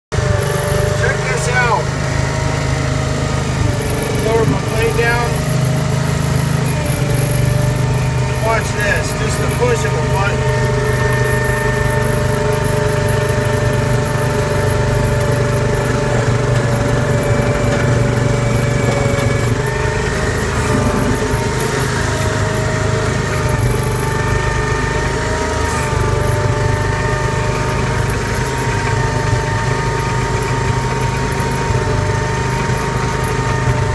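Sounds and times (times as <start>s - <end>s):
tractor engine running under load: 0.1s - 33.9s
whining tones: 0.1s - 33.9s.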